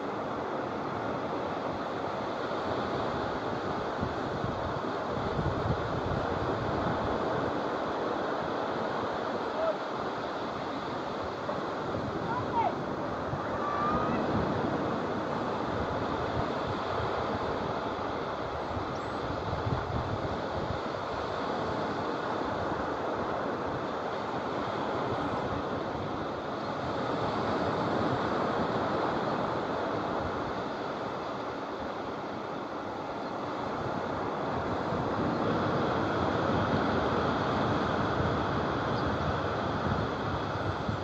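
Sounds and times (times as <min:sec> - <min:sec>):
surf breaking on beach: 0:00.0 - 0:41.0
wind rumble on microphone: 0:00.0 - 0:41.0.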